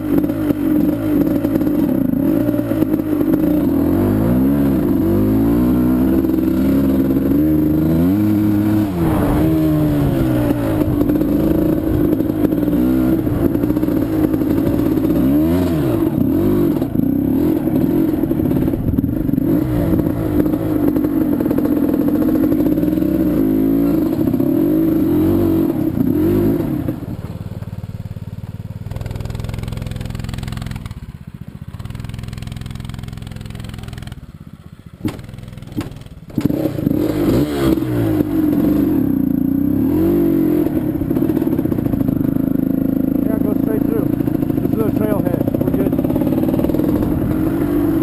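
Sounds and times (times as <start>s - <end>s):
quad engine revving: 0.0s - 48.0s.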